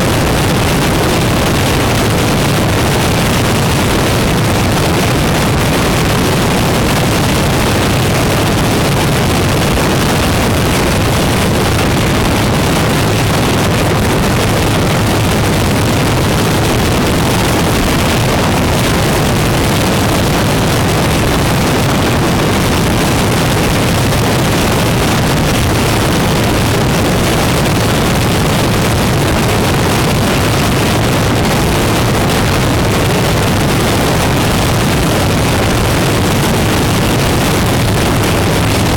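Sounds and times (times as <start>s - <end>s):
motorcycle engine drone: 0.0s - 38.9s
wind rushing over microphone: 0.0s - 38.9s.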